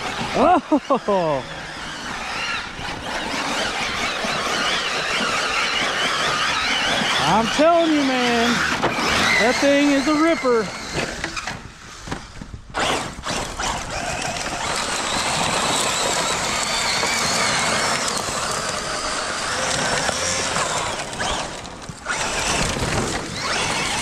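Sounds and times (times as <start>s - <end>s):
electric motor whining: 0.0s - 24.0s
tyres spinning and spraying dirt: 0.0s - 24.0s.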